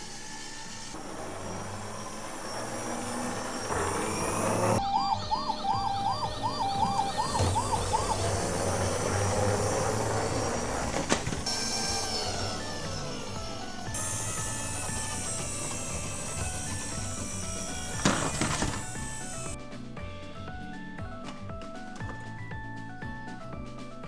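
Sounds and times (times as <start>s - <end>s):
electronic siren wailing: 0.0s - 19.6s.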